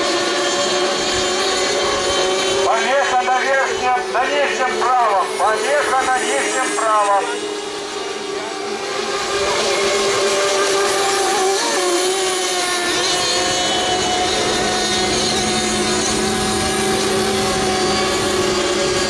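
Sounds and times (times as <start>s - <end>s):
model boat engines whining: 0.0s - 19.0s.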